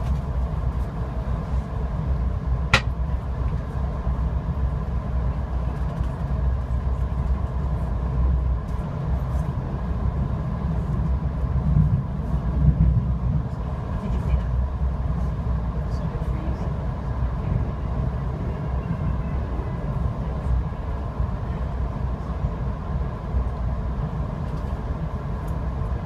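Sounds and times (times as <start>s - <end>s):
train coach rumble: 0.0s - 26.0s.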